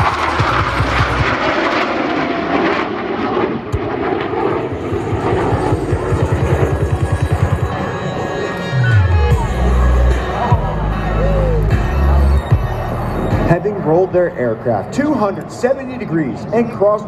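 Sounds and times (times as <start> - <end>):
jet engines roaring by: 0.0 - 17.0.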